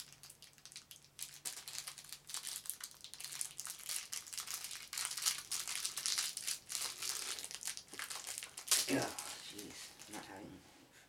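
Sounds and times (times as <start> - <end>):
candy wrapper crinkling: 0.0 - 10.2.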